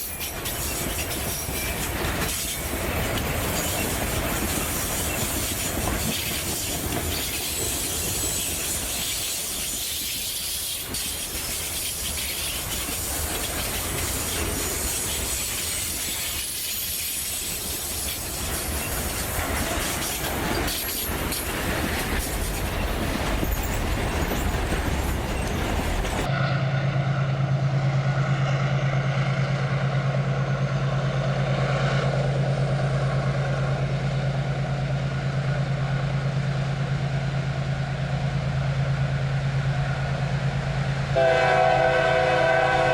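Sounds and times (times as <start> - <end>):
freight train rumbling: 0.0 - 42.9.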